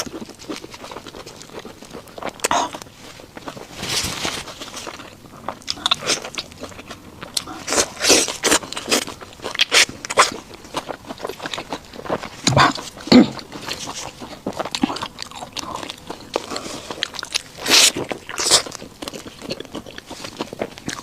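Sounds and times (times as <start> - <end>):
biting and chewing burger: 0.0 - 21.0.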